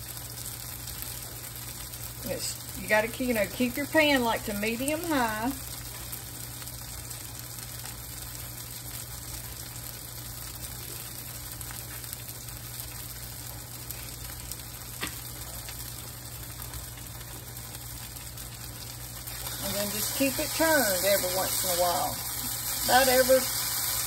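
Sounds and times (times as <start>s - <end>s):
vegetables sizzling in a skillet: 0.0s - 24.0s.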